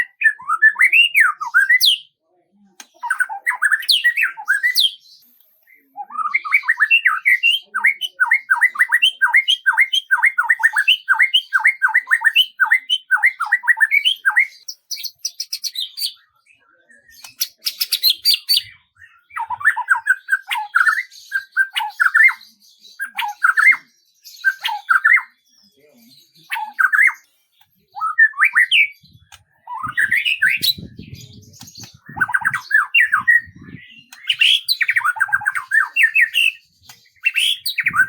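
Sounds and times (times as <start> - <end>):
songbird singing: 0.0 - 38.0.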